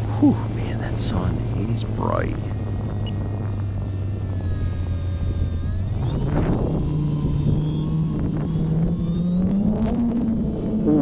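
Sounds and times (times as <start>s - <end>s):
model airplane motor and propeller: 0.0s - 11.0s.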